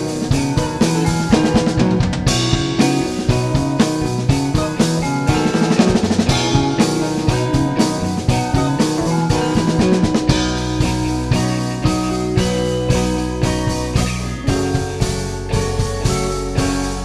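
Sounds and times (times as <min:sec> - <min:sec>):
drum kit hits: 0:00.0 - 0:17.0
rock band playing: 0:00.0 - 0:17.0
sustained low bass note: 0:00.0 - 0:17.0.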